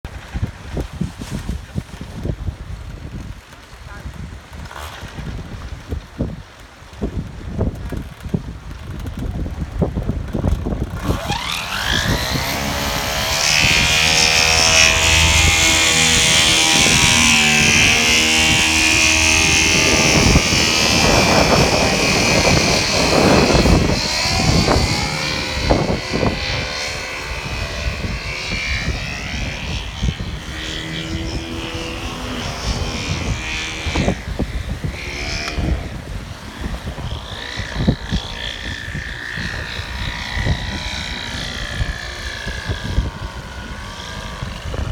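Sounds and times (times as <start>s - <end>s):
paramotor engine and propeller: 0.1s - 44.9s.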